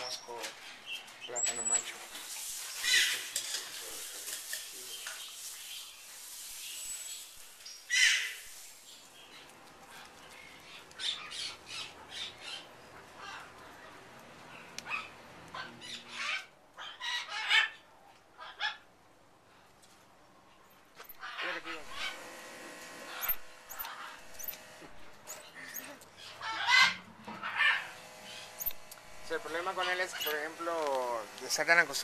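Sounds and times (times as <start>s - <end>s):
birds calling: 0.0s - 18.8s, 21.0s - 22.4s, 23.0s - 32.0s.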